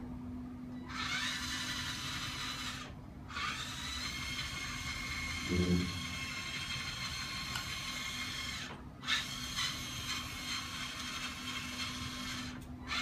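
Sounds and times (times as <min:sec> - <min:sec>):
toy excavator hydraulic whine: 0:00.8 - 0:13.0.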